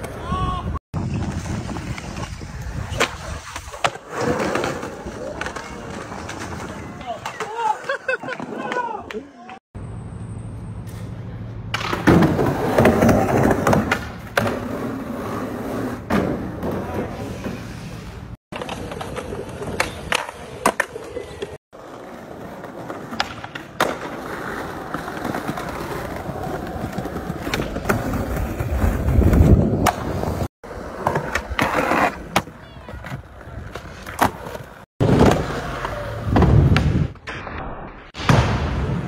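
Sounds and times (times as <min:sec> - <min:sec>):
skateboard wheels rolling: 0:00.0 - 0:09.5, 0:10.7 - 0:37.2.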